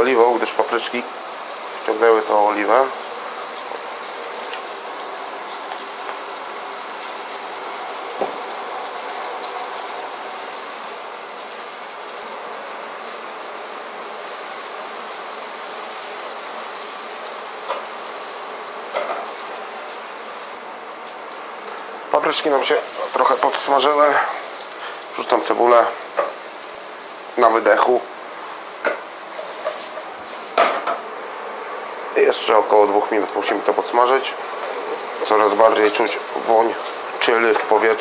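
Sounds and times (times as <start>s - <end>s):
peppers sizzling in hot oil: 0.0s - 38.0s.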